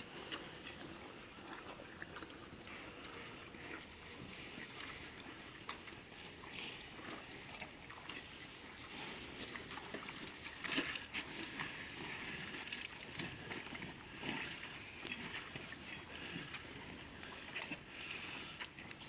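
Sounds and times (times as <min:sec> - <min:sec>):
cattle moving and shifting: 0:00.0 - 0:19.0.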